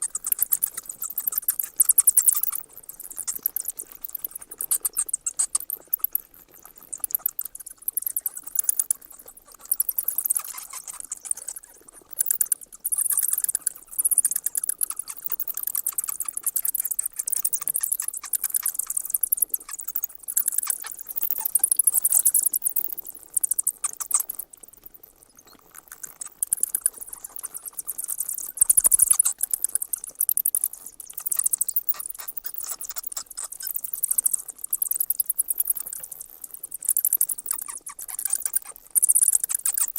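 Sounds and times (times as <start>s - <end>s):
bats squeaking: 0.0s - 39.9s.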